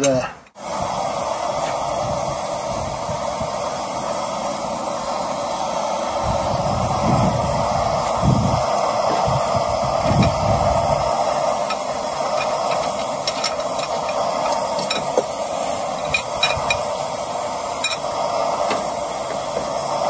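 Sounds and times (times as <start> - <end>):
forge burner roaring: 0.0 - 20.0.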